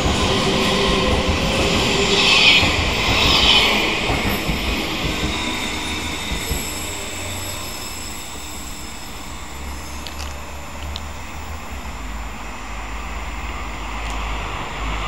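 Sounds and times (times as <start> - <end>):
electric train passing: 0.0 - 15.0
wheels hissing on rail: 0.0 - 15.0.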